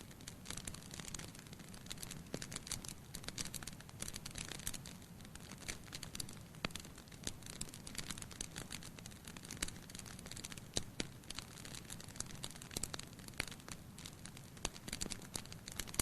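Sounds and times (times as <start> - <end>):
firewood crackling and snapping: 0.0 - 16.0.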